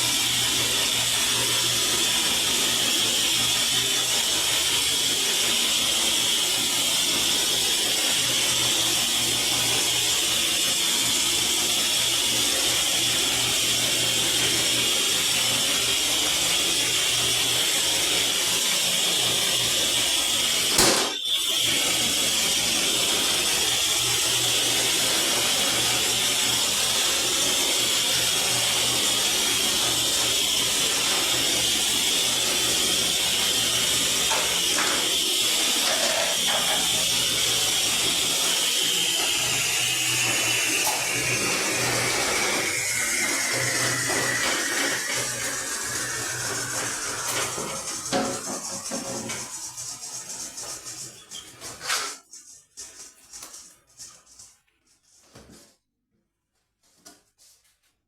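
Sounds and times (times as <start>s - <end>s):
power tool whining while cutting: 0.0s - 51.4s.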